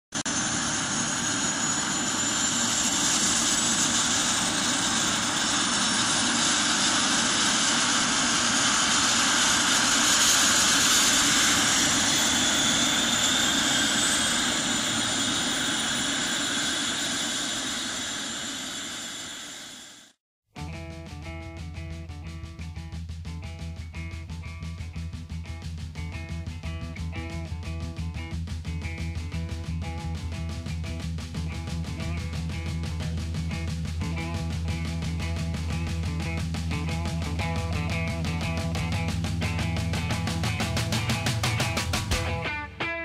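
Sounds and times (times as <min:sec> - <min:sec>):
helicopter turbine whine: 0:00.2 - 0:20.2, 0:27.2 - 0:42.4.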